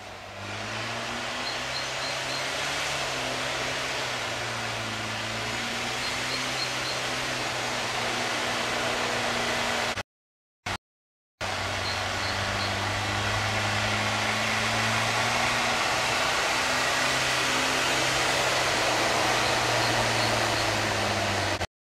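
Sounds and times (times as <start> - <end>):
car engine running: 0.0 - 10.0, 11.4 - 21.6.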